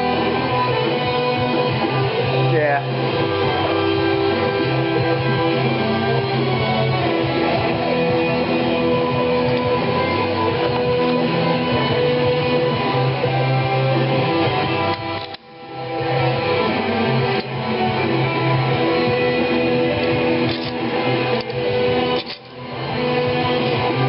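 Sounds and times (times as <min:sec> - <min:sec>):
strummed guitar music: 0:00.0 - 0:24.0.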